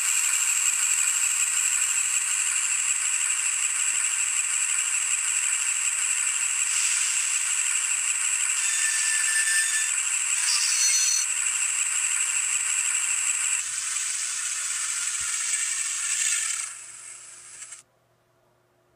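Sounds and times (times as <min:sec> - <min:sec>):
tinny simulated diesel engine: 0:00.0 - 0:17.8.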